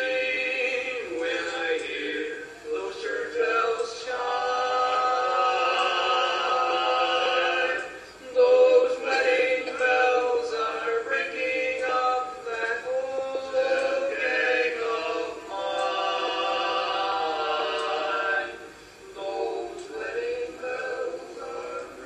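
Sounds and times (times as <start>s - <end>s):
men singing harmony a cappella: 0.0s - 22.0s.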